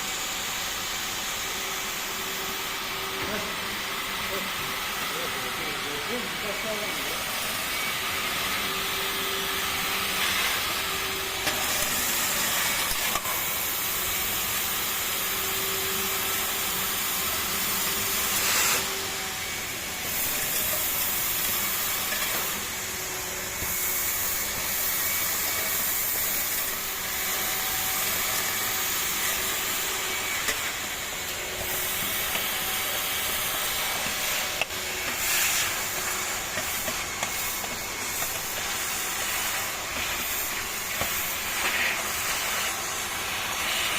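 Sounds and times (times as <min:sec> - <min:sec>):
vacuum cleaner suction hiss: 0:00.0 - 0:43.9.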